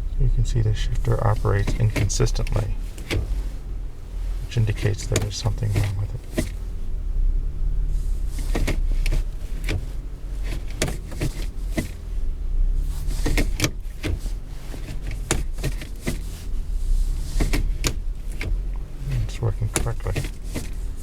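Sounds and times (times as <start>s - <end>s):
steady low hum: 0.0s - 21.0s
gearshift lever clicking and clunking: 0.1s - 21.0s.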